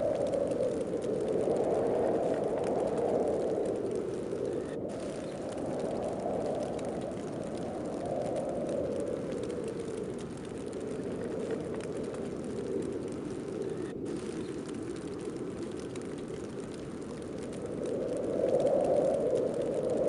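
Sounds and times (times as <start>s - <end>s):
faint fine crackle: 0.0s - 20.0s
snowstorm wind rushing: 0.0s - 20.0s.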